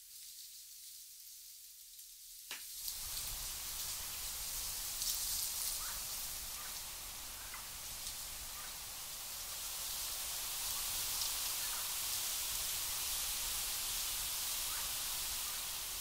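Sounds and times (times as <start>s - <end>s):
wind rustling through dry grass: 0.0s - 16.0s.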